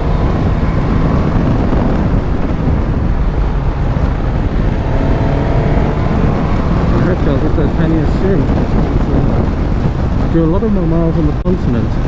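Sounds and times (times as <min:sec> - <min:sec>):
motorcycle engine running: 0:00.0 - 0:12.0
road noise: 0:00.0 - 0:12.0
wind rush on microphone: 0:00.0 - 0:12.0.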